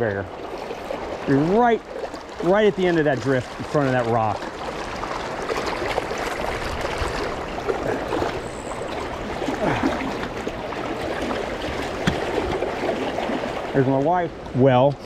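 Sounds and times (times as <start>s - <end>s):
river water rushing: 0.4s - 14.1s.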